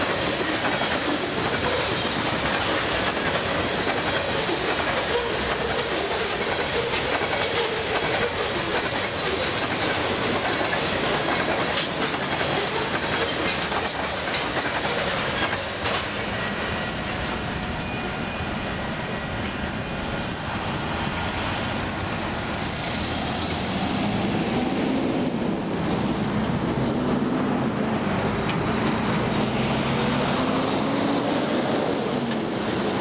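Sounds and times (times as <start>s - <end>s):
train wheels clicking over rail joints: 0.0s - 30.4s
train rumble: 0.0s - 33.0s.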